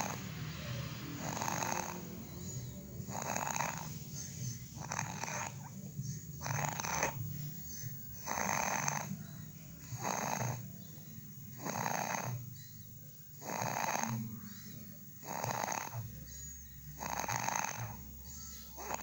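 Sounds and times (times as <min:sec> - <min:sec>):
person snoring: 0:00.0 - 0:10.8, 0:11.5 - 0:12.5, 0:13.4 - 0:14.3, 0:15.2 - 0:19.0.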